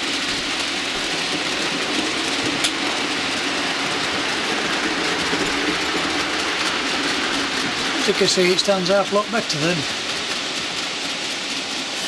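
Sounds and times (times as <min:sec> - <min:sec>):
model trains rolling on track: 0:00.0 - 0:12.0.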